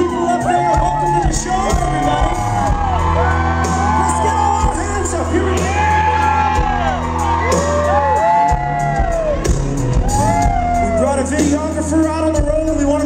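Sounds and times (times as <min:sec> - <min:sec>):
shouted whoops: 0:00.0 - 0:11.4
live country band playing: 0:00.0 - 0:13.0.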